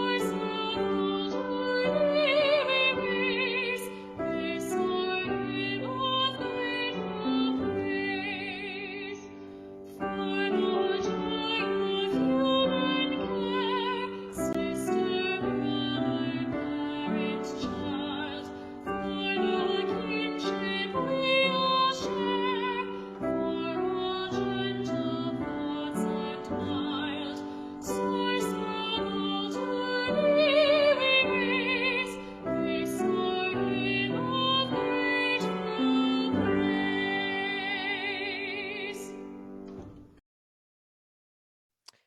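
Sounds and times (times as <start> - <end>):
woman singing a slow hymn: 0.0 - 39.3
piano accompaniment: 0.0 - 40.2.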